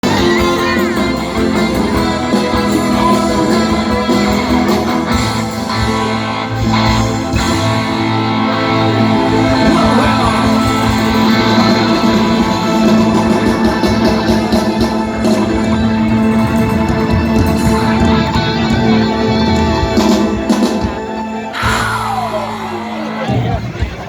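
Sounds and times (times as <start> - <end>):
music with plucked guitar: 0.0 - 21.1.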